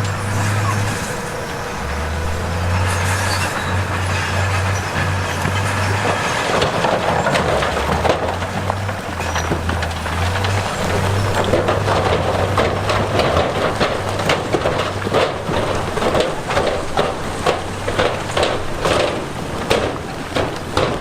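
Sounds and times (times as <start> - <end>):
clatter of hard knocks: 0.0 - 21.0
diesel machinery running: 0.0 - 21.0.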